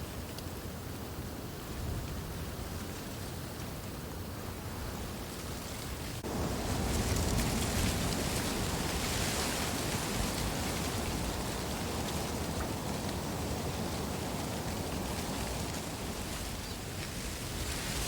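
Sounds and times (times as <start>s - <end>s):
wind rustling reeds: 0.0s - 18.0s.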